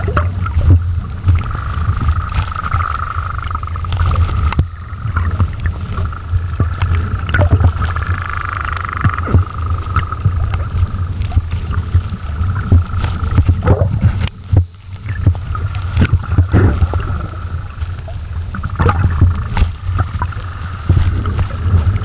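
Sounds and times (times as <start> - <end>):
low underwater water rumble: 0.0 - 22.0
underwater knocks and thumps: 0.0 - 22.0.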